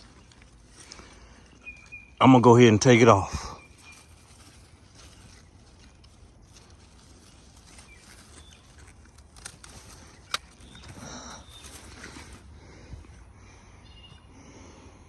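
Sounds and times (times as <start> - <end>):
handling of plant leaves: 0.0 - 14.9
quiet outdoor ambience: 0.0 - 15.0.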